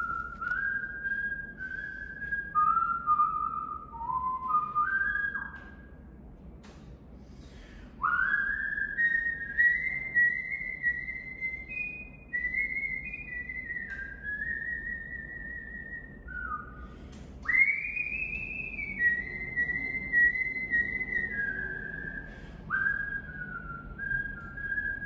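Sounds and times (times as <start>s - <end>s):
person whistling a tune: 0.0s - 6.0s, 8.0s - 25.0s.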